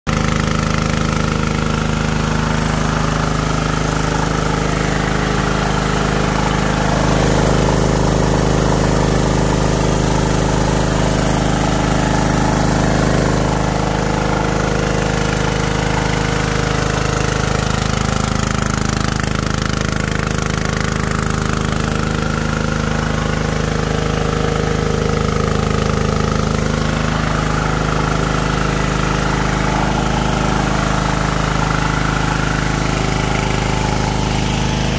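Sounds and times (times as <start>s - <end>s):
petrol generator running: 0.1s - 34.9s.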